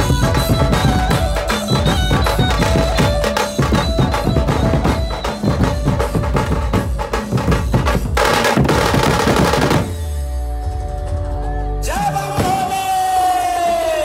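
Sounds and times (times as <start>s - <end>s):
drums beaten with sticks: 0.0s - 13.0s.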